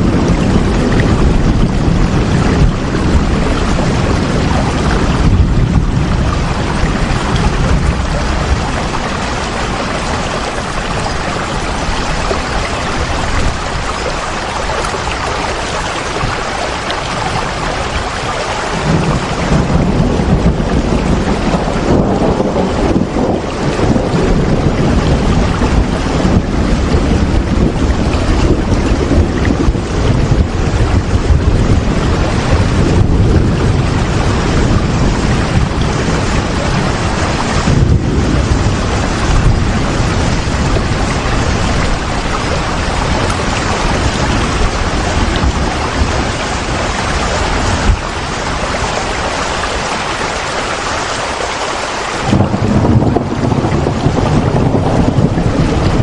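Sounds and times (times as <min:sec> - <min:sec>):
gusting wind: 0:00.0 - 0:56.0
heavy rain: 0:00.0 - 0:56.0.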